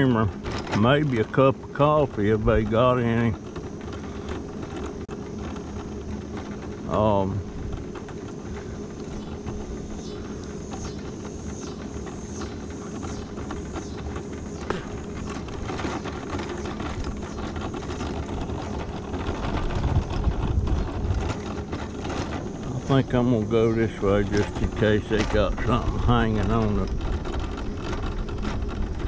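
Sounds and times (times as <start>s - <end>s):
mobility scooter motor hum: 0.0s - 29.0s
tyre noise on rough asphalt: 0.0s - 29.0s
low rumble: 3.3s - 29.0s.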